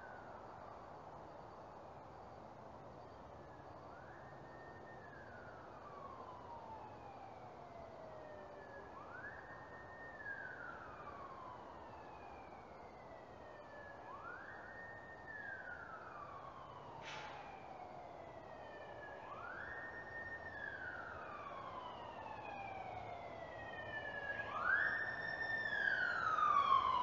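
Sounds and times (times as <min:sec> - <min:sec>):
faint siren wailing: 0:00.0 - 0:27.0.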